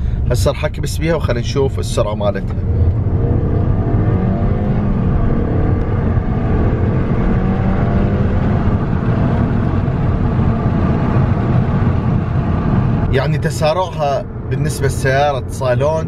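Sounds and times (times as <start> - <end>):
car engine accelerating: 0.0 - 15.6.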